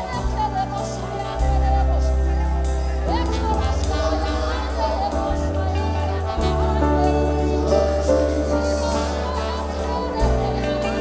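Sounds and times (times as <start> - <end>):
gospel band playing: 0.0 - 11.0
person singing: 0.0 - 11.0.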